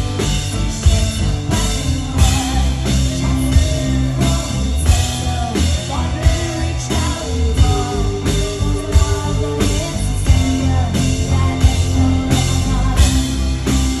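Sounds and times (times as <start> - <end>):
drum kit beat: 0.0 - 14.0
live rock band: 0.0 - 14.0
woman singing: 0.0 - 14.0.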